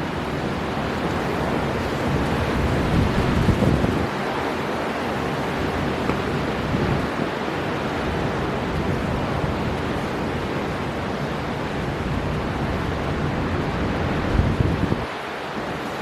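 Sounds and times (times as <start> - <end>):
heavy sea surf: 0.0 - 16.0
storm wind: 0.0 - 16.0
wind buffeting microphone: 0.0 - 16.0.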